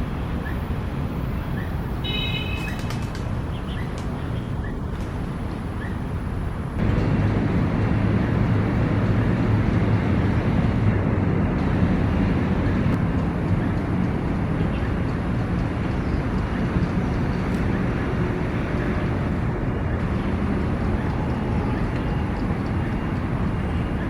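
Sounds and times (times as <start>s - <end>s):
low outdoor background rumble: 4.4s - 24.0s.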